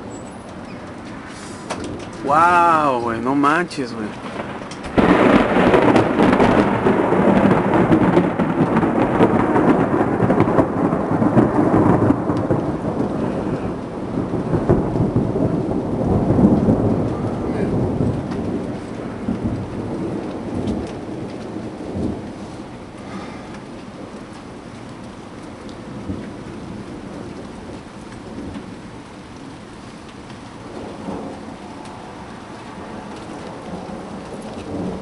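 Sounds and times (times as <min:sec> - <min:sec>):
steady rain: 0:00.0 - 0:35.0
thunder rumbling: 0:00.0 - 0:35.0.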